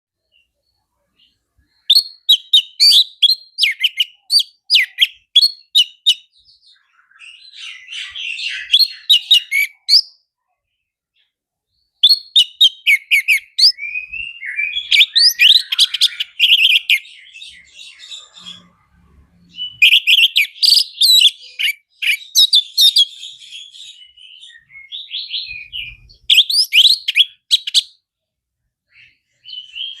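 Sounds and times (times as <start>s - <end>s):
bird singing whistled phrases: 0.2s - 10.2s, 11.8s - 18.8s, 19.4s - 28.0s, 28.9s - 30.0s
soft bird twittering: 0.2s - 28.2s, 28.9s - 30.0s.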